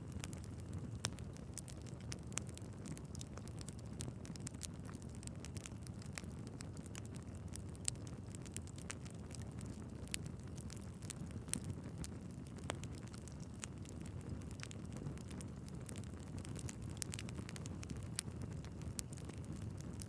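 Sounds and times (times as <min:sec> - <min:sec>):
crackles and pops of logs: 0:00.0 - 0:20.0
fire flames rushing: 0:00.0 - 0:20.0.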